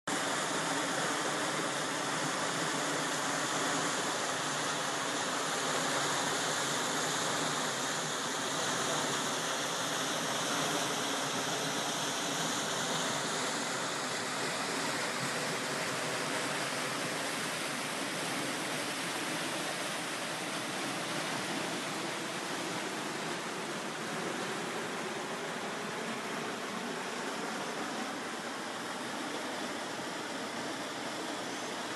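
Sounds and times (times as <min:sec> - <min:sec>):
floodwater rushing: 0:00.1 - 0:31.9.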